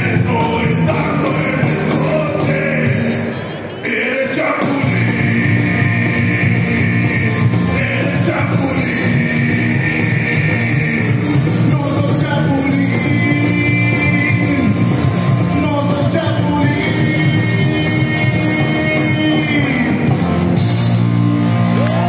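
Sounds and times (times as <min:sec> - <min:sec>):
loud rock music with singing: 0:00.0 - 0:22.0.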